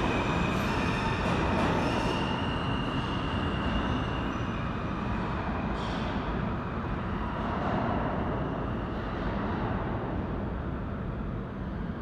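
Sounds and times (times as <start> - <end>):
subway train rumbling in tunnel: 0.0 - 12.0.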